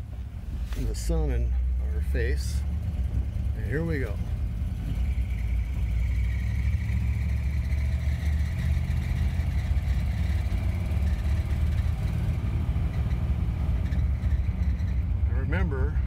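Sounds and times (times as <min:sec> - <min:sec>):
car engine drone: 0:00.0 - 0:16.0
road and tyre noise: 0:00.0 - 0:16.0.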